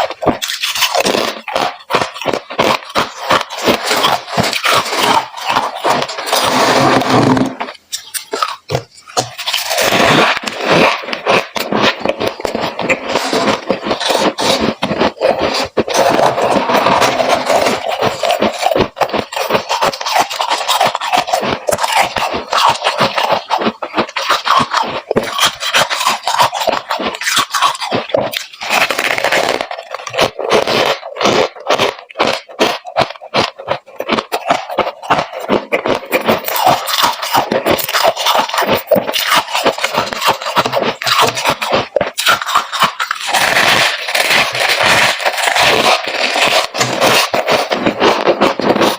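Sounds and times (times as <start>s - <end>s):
frost crunching and scraping: 0.0s - 48.9s.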